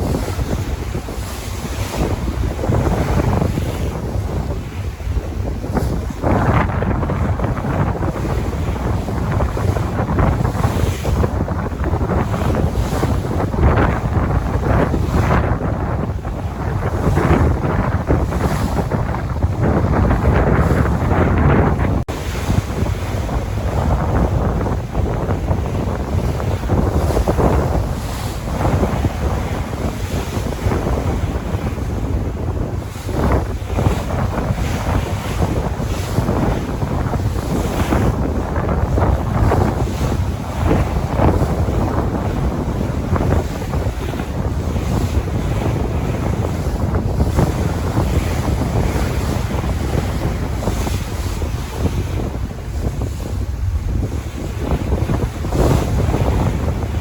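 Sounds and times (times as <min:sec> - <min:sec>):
sea waves washing on shore: 0:00.0 - 0:57.0
wind buffeting microphone: 0:00.0 - 0:57.0.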